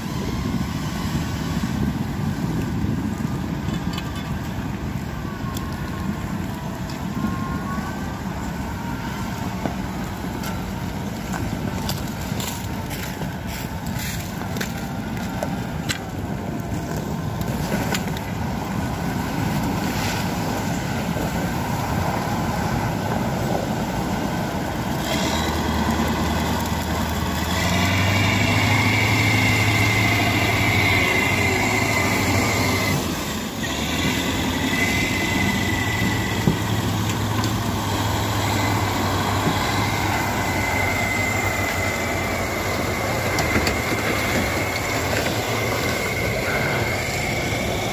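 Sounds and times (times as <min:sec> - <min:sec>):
heavy diesel engines: 0:00.0 - 0:47.9
high whine: 0:00.0 - 0:47.9.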